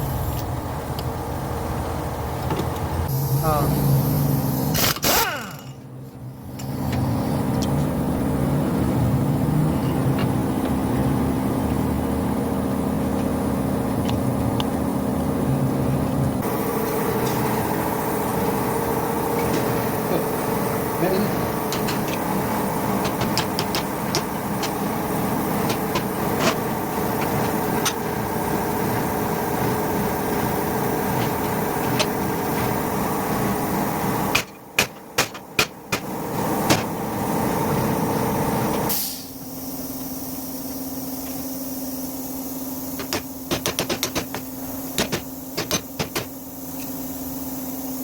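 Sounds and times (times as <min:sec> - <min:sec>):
steady low hum: 0:00.0 - 0:48.0
workshop machine running: 0:00.0 - 0:48.0.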